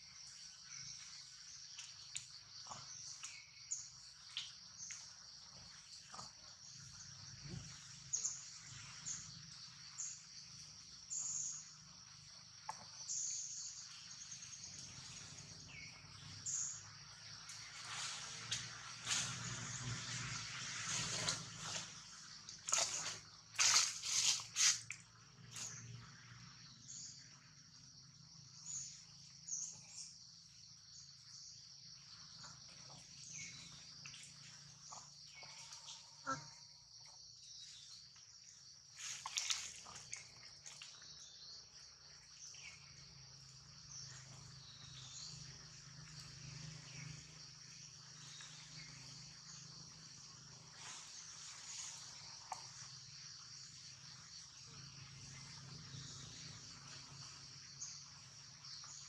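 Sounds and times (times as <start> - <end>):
insect chorus chirring: 0.0 - 59.0.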